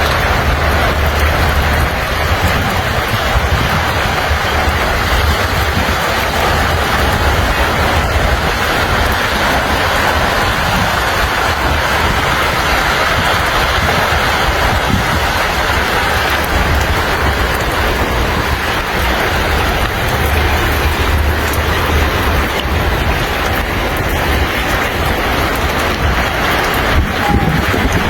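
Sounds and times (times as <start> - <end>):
rushing flood water: 0.0 - 28.0
wind rumbling on microphone: 0.0 - 28.0.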